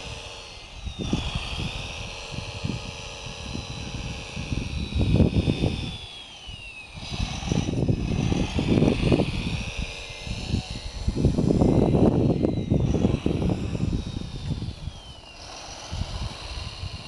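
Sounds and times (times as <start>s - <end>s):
electric drive whine: 0.0s - 17.0s
wind buffeting microphone: 0.0s - 17.0s.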